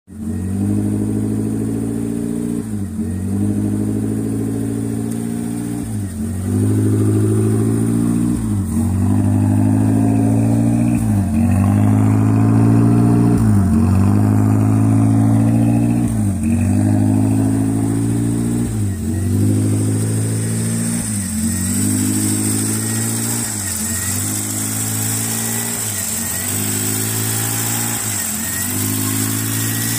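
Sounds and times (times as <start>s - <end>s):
car engine hunting idle: 0.1s - 29.9s.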